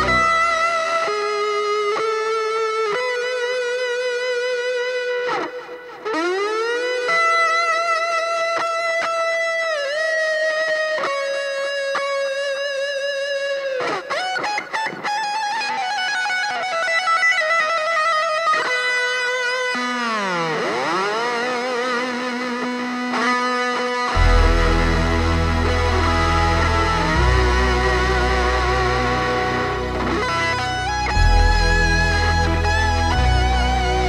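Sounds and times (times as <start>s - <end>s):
electric guitar with pitch dives: 0.0s - 15.9s, 18.5s - 34.0s.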